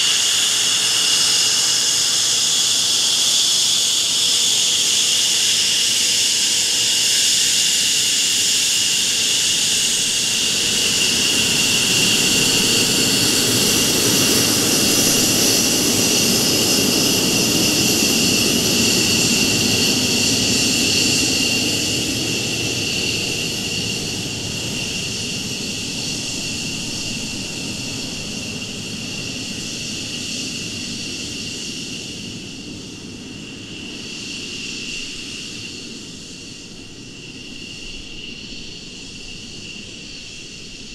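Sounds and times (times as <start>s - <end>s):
jet engines whining and rumbling: 0.0s - 40.9s.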